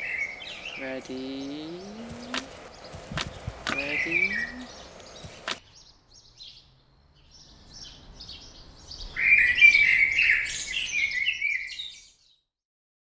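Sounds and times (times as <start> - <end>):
birds chirping and singing: 0.0 - 12.5.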